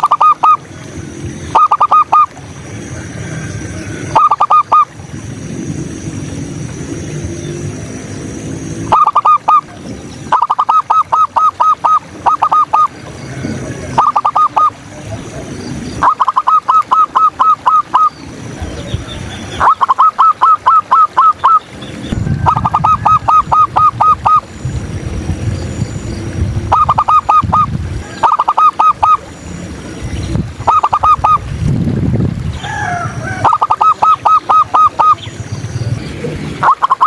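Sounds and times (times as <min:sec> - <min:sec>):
doves cooing: 0:00.0 - 0:06.4, 0:07.0 - 0:31.6, 0:32.4 - 0:37.0.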